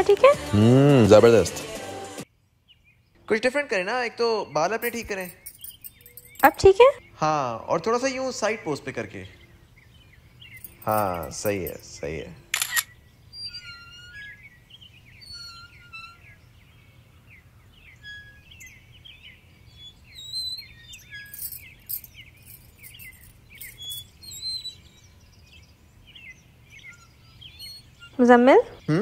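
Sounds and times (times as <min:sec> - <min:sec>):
small birds chirping: 0:02.2 - 0:29.0.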